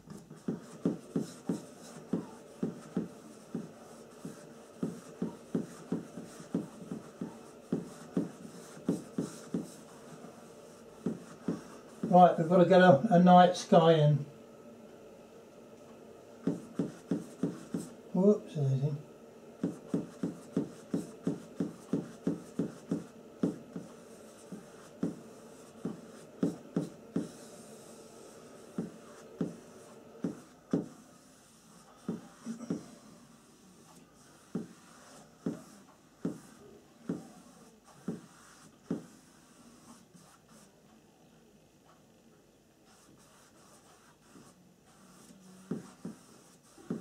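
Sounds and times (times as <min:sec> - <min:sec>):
paintbrush stroking on canvas: 0:00.3 - 0:12.4, 0:16.4 - 0:18.0, 0:19.6 - 0:40.7, 0:42.9 - 0:47.0.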